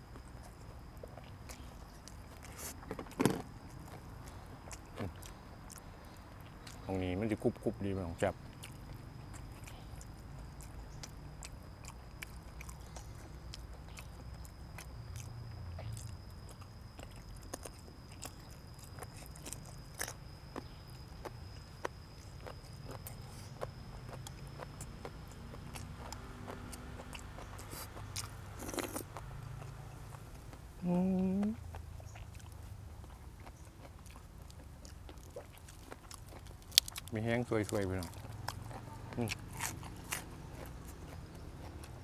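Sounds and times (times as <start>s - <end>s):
person chewing crunchy food: 0.0s - 7.5s, 8.2s - 42.0s.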